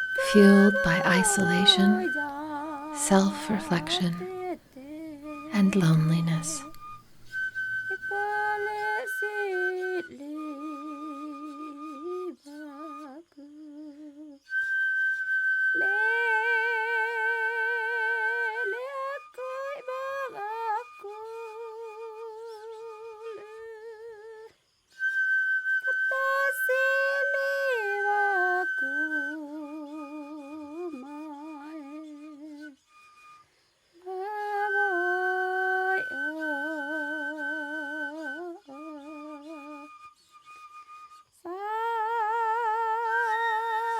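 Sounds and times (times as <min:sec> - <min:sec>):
person humming melody with vibrato: 0:00.0 - 0:14.6, 0:15.7 - 0:24.5, 0:25.8 - 0:32.7, 0:34.0 - 0:40.0, 0:41.5 - 0:43.9.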